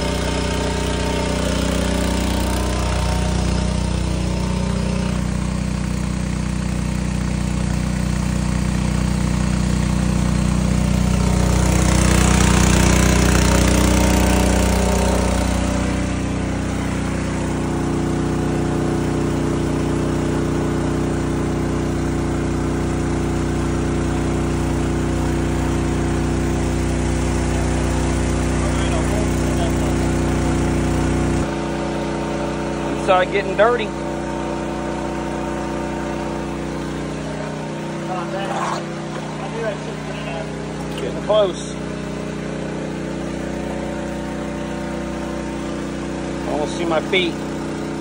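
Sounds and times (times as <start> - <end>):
small gasoline engine running: 0.0 - 48.0.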